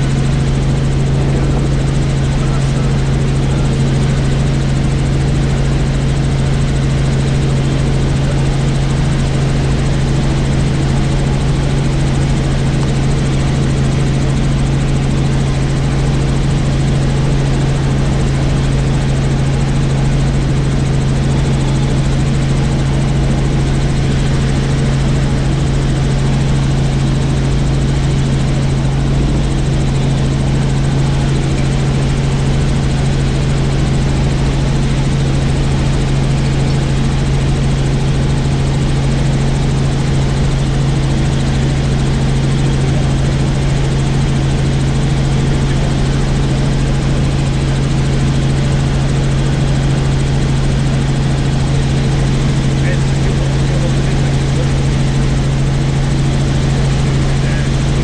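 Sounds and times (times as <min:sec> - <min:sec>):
helicopter drone: 0:00.0 - 0:58.0.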